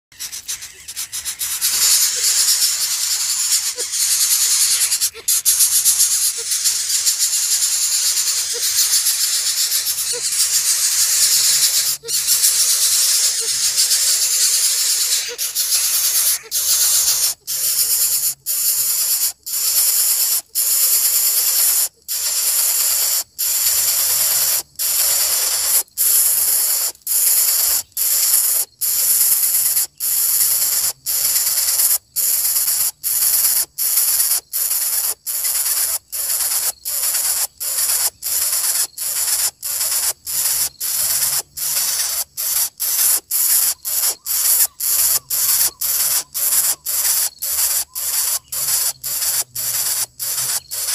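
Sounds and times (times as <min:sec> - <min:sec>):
bird chick hissing: 0:00.2 - 0:50.9.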